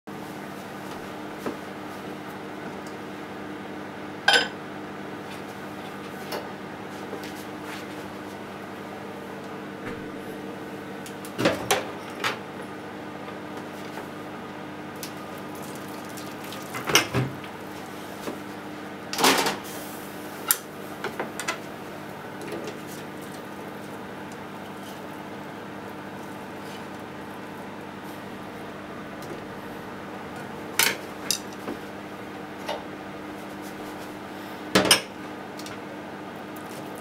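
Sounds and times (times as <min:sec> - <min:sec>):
steady low hum: 0:00.2 - 0:16.5, 0:17.3 - 0:36.4.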